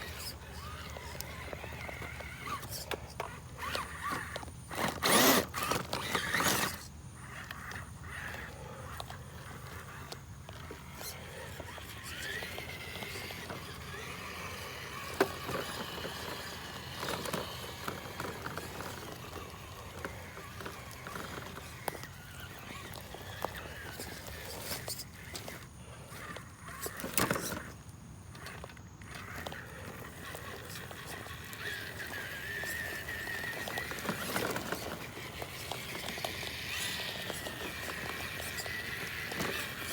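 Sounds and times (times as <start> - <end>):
electric motor and gears whining: 0.0 - 39.9
toy truck clicks and knocks: 0.1 - 25.6, 26.2 - 39.9.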